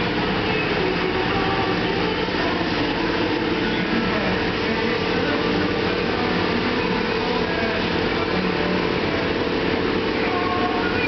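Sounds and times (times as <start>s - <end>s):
extraction fan hum: 0.0s - 11.0s.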